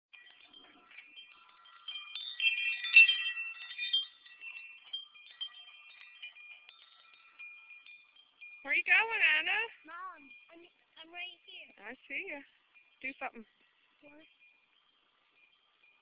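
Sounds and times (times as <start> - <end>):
high ringing chime tones: 0.2 - 16.0.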